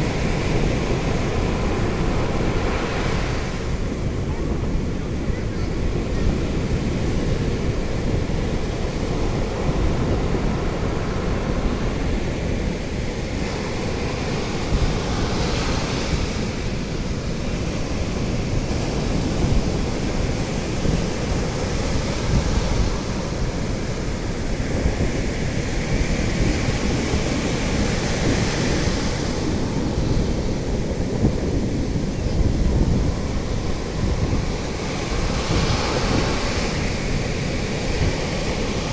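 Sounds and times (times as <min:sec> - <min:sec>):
sea waves washing ashore: 0:00.0 - 0:38.9
wind rumble on microphone: 0:00.0 - 0:38.9.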